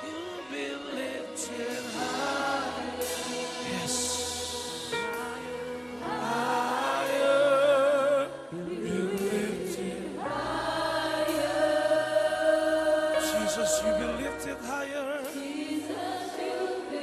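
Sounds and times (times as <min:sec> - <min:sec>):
choir singing held chords: 0:00.0 - 0:17.0
musical accompaniment: 0:00.0 - 0:17.0.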